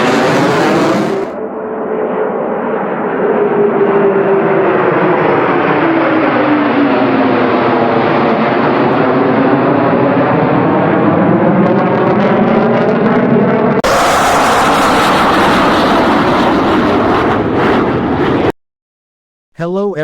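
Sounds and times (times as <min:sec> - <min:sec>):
fighter jet passing by: 0:00.0 - 0:18.5.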